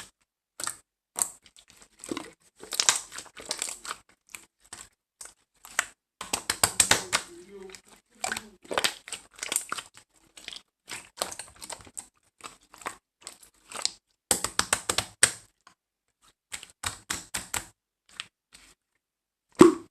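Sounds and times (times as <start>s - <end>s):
slime squishing and popping: 0.6s - 15.5s, 16.5s - 18.3s, 19.6s - 19.9s.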